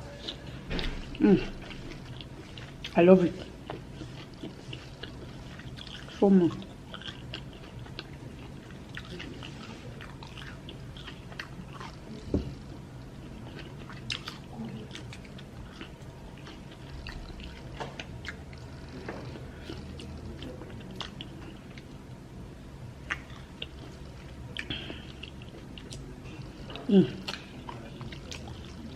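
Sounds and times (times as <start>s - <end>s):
person chewing and crunching: 0.1s - 22.0s, 23.0s - 28.9s.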